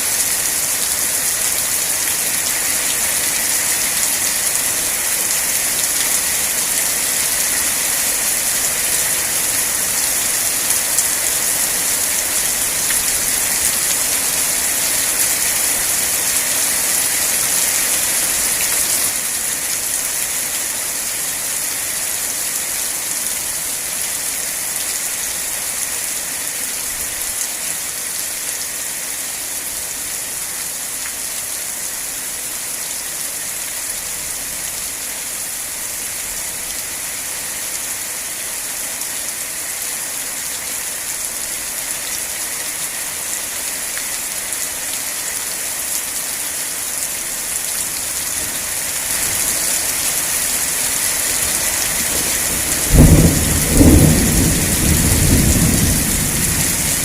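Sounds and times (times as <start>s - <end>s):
rain falling steadily: 0.0s - 57.0s.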